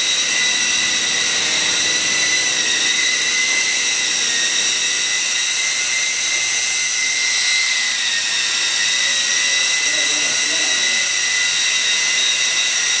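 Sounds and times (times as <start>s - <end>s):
toy helicopter motors whining: 0.0s - 13.0s.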